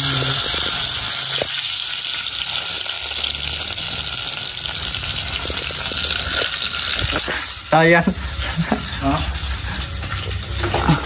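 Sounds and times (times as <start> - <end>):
frying in hot oil: 0.0 - 11.0.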